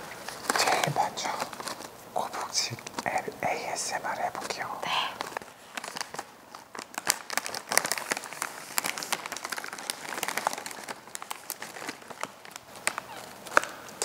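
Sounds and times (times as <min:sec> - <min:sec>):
foil snack bag crinkling: 0:00.0 - 0:14.0.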